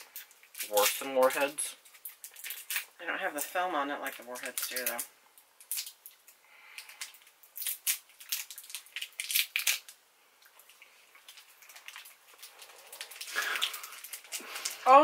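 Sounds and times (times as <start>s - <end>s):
candy wrappers crackling: 0.0s - 15.0s.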